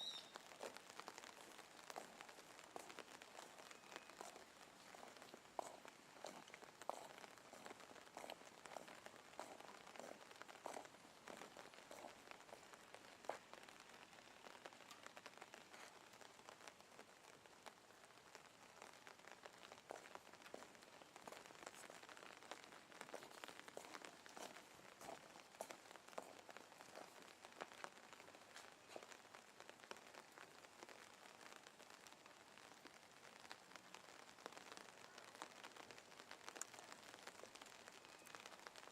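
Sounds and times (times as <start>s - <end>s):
faint rain falling: 0.0s - 38.9s
raindrop ticks: 0.0s - 38.9s.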